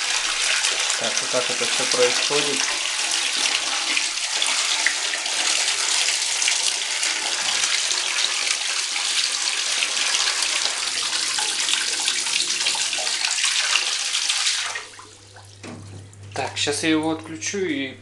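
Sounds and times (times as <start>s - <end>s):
pump outflow churning water: 0.0s - 17.6s.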